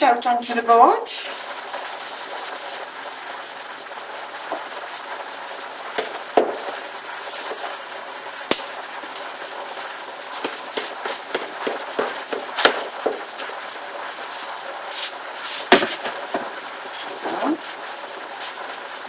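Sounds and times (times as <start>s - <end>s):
steady hiss: 1.0s - 19.0s.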